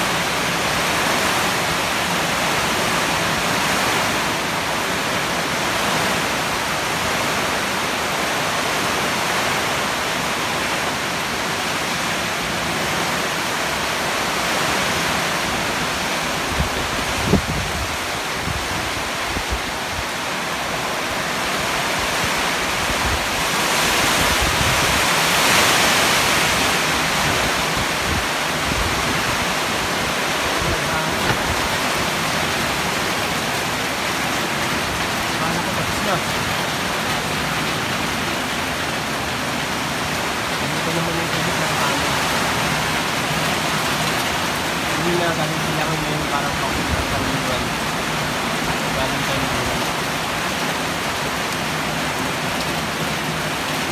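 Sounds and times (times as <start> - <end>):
heavy rain: 0.0 - 53.9
strong wind gusts: 0.0 - 53.9.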